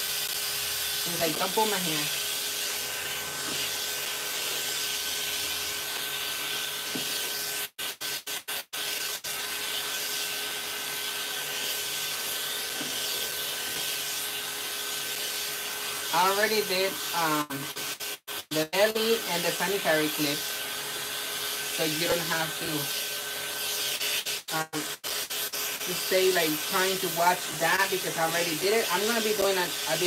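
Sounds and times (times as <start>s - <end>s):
electric clippers with vacuum hissing: 0.0s - 30.0s.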